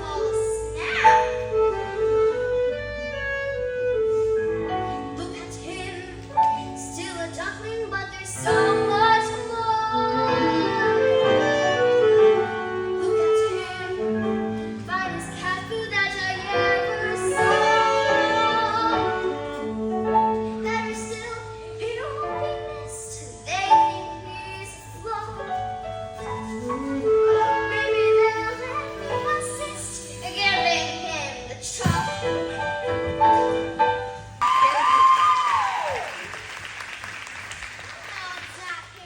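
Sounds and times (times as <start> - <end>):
instrumental accompaniment: 0.0 - 34.4.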